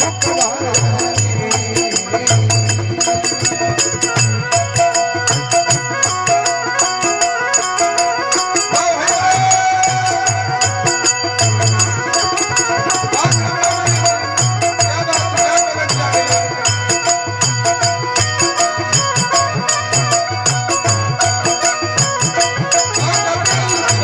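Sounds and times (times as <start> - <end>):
hand drum rhythm: 0.0 - 24.0
jingling percussion: 0.0 - 24.0
sustained melody line: 0.0 - 24.0.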